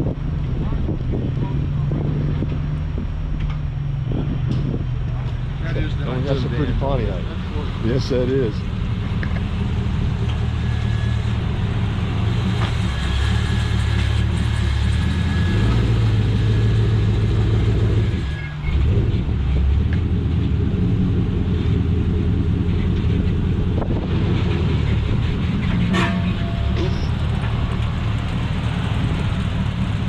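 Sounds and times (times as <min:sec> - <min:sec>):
car engines rumbling: 0:00.0 - 0:30.0.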